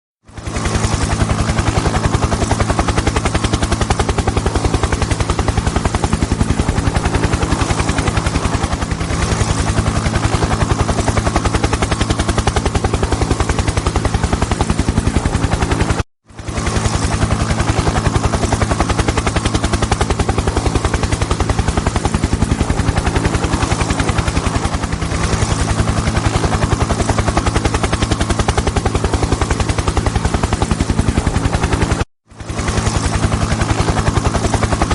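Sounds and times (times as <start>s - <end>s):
helicopter engine hum: 0.2s - 34.9s
helicopter rotor chop: 0.2s - 34.9s.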